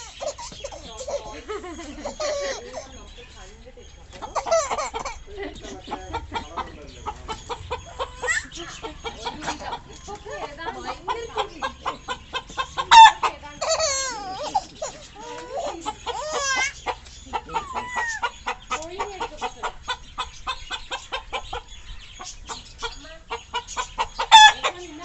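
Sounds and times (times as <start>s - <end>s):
chicken clucking: 0.0s - 25.0s
chicken squawking: 4.2s - 5.3s, 5.9s - 24.9s.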